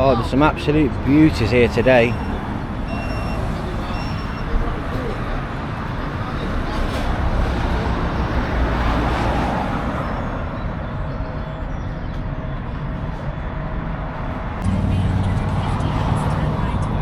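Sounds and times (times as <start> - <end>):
motorbike and traffic passing: 0.0 - 17.0.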